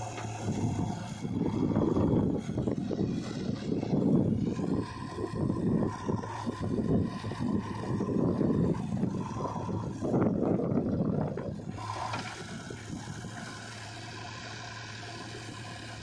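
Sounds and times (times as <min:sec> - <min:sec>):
diesel engines rumbling: 0:00.0 - 0:16.0.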